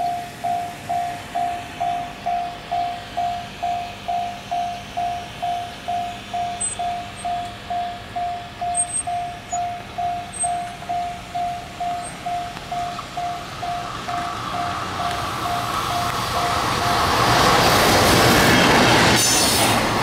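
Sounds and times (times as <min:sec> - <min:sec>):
level crossing bell ringing: 0:00.0 - 0:17.2
faint freight train: 0:00.0 - 0:20.0.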